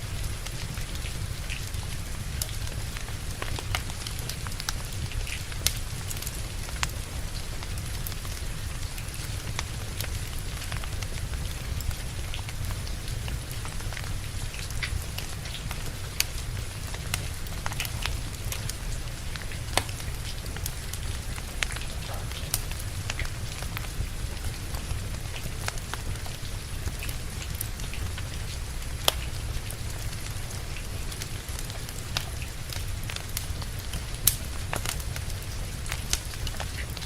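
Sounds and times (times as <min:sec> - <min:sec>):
steady rain: 0:00.0 - 0:37.0
wood fire crackling and popping: 0:00.0 - 0:37.0.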